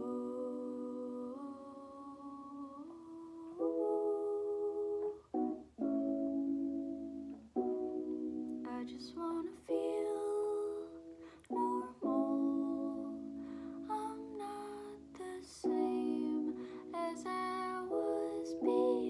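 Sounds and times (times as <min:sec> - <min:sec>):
woman singing slow song: 0:00.0 - 0:05.3, 0:08.6 - 0:19.0.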